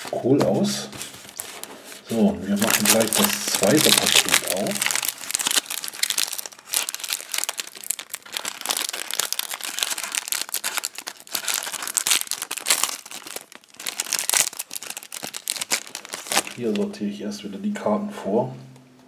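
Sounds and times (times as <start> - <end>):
foil pack crinkling and tearing: 1.0 - 16.9.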